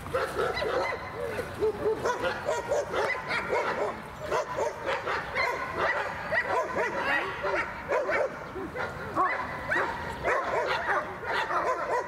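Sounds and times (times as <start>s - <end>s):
dog barking excitedly: 0.2s - 12.0s.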